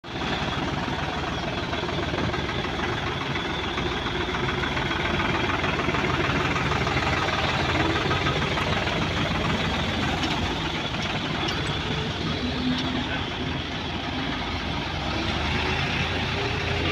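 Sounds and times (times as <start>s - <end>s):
heavy diesel engine chugging: 0.0s - 16.9s.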